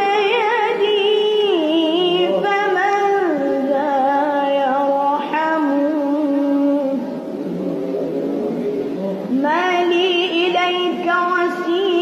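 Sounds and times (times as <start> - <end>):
person singing unaccompanied: 0.0 - 7.2, 9.0 - 12.0.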